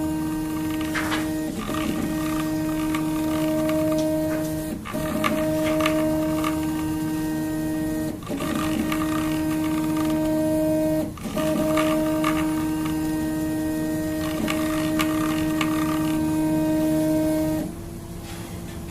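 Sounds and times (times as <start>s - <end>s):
printer stepper motors whining: 0.0s - 18.7s.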